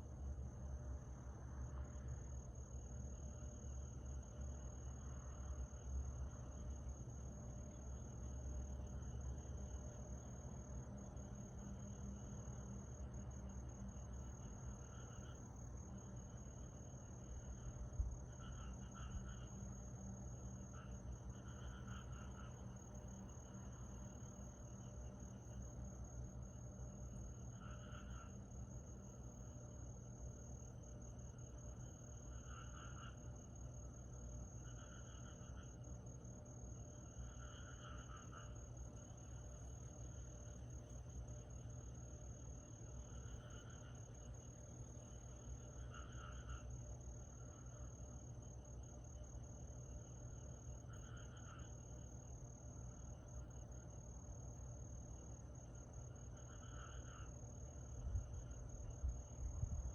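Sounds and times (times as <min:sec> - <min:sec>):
faint low hum: 0:00.0 - 0:59.9
lower short insect call: 0:01.5 - 0:59.9
high insect trill: 0:02.4 - 0:59.9.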